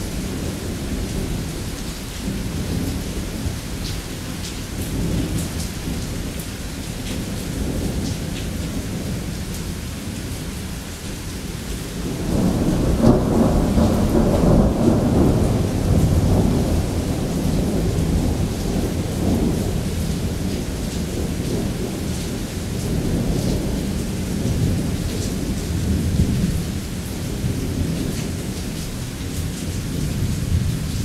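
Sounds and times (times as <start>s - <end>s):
heavy rain: 0.0s - 31.0s
low rumble of thunder: 0.0s - 31.0s.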